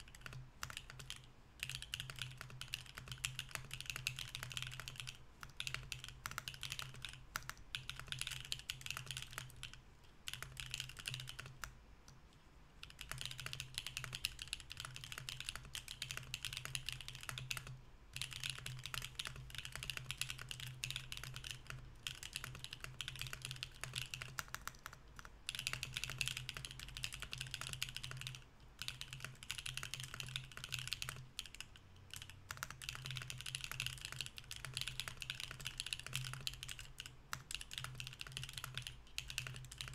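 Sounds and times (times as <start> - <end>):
fast mechanical keyboard typing: 0.0 - 11.7, 12.8 - 39.9.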